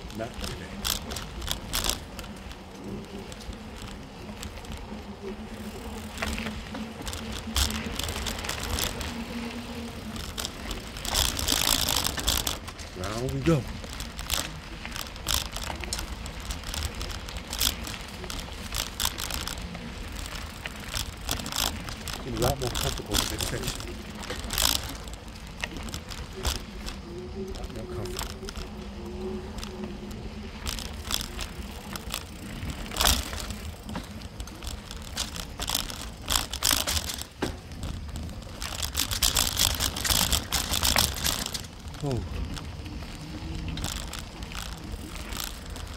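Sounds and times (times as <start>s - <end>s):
bike clicking and rattling: 0.0s - 45.9s
bike tyres rumbling on dirt: 0.0s - 45.9s.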